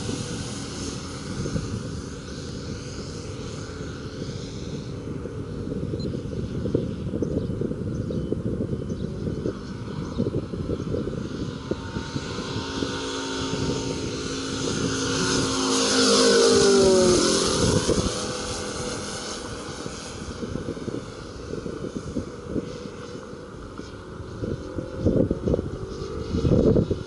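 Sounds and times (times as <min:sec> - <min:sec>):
model plane engine passing: 0:00.0 - 0:27.0
wind buffeting microphone: 0:00.0 - 0:27.0.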